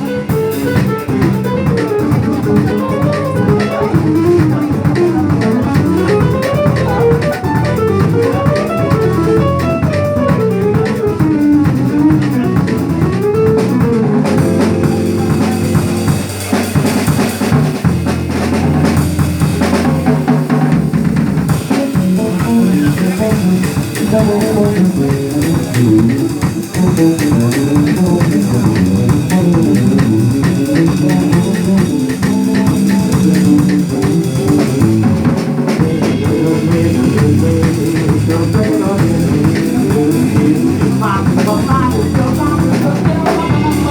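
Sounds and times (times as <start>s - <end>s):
drums guitar and bass music: 0.0s - 43.9s.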